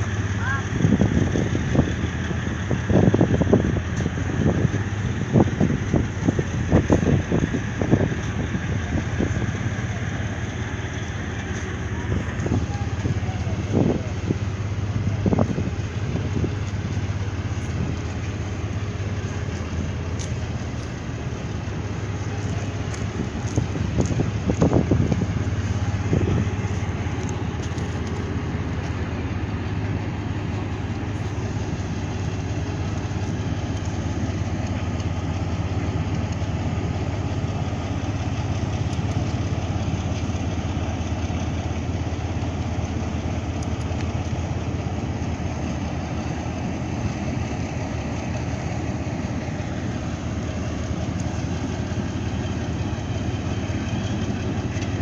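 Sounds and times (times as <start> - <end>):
ship engine humming: 0.0 - 55.0.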